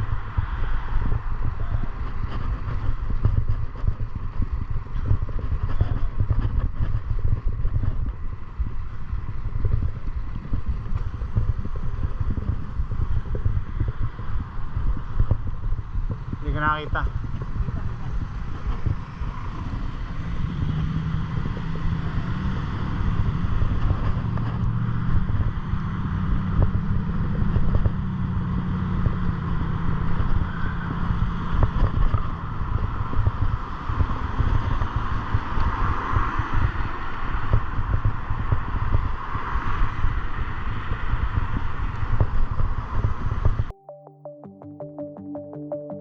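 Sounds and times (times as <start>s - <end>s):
wind buffeting microphone: 0.0s - 43.7s.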